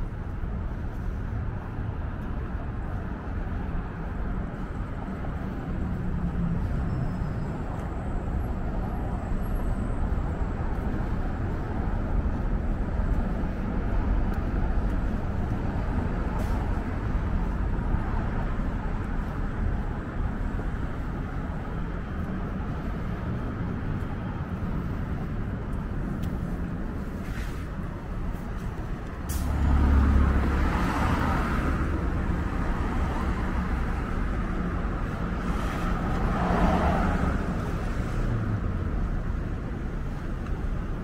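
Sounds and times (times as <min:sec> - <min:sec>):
cars driving through intersection: 0:00.0 - 0:41.0.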